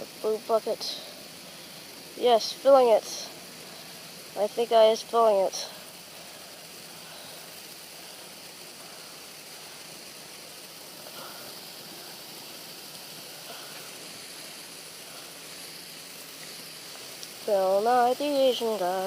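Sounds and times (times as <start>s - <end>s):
hose water jet filling bucket: 0.0s - 19.0s.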